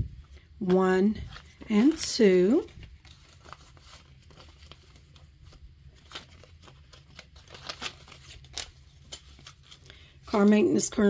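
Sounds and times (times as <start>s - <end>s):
paper banknotes rustling: 0.2s - 11.0s.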